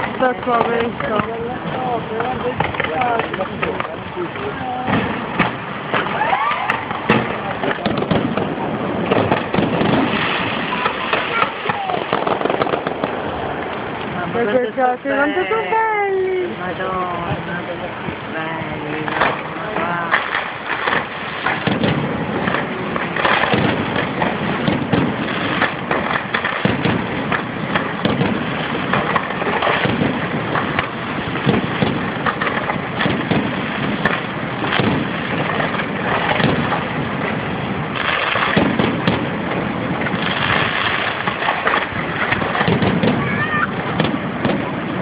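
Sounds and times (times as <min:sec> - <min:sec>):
fireworks banging and crackling: 0:00.0 - 0:45.0.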